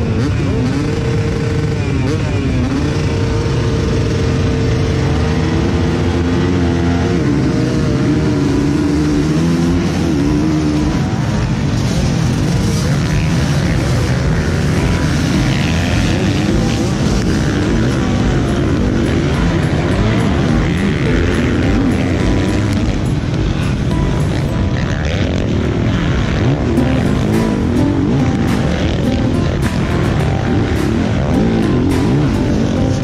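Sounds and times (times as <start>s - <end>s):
motocross bike engines revving: 0.0s - 33.0s.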